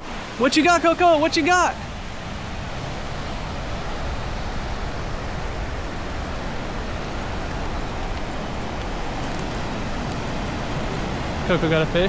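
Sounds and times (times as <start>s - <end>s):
surf: 0.0s - 12.0s
wind buffeting microphone: 0.0s - 12.0s.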